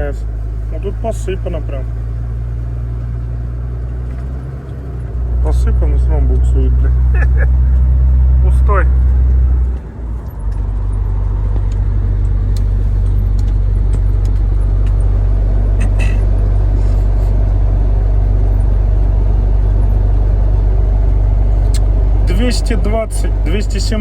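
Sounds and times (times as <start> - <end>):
truck engine and road drone: 0.0 - 24.0.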